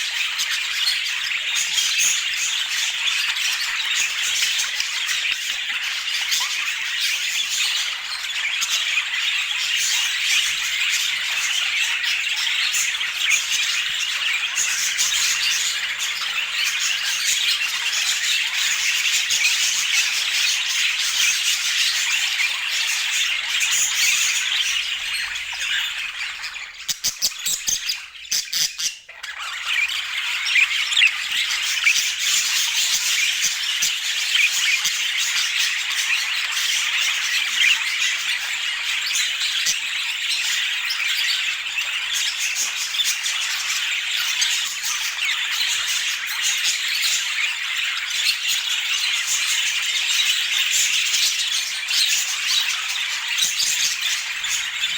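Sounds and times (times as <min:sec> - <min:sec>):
budgerigars chattering and squawking: 0:00.0 - 0:54.9.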